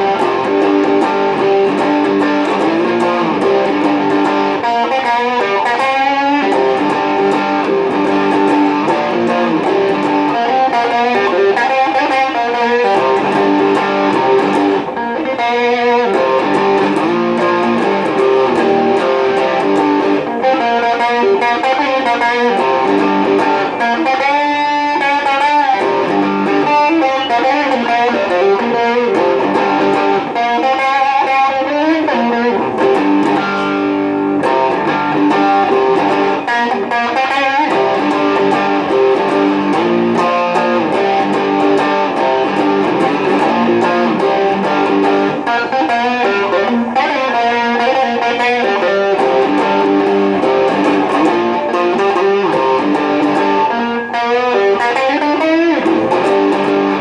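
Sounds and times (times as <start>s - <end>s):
electric guitar playing blues-rock: 0.0s - 57.0s.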